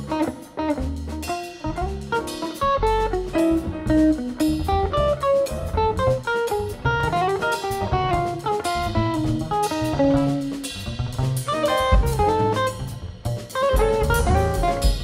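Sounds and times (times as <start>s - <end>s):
drums: 0.0s - 15.0s
jazz electric guitar solo: 0.0s - 15.0s
plucked upright bass: 0.0s - 15.0s.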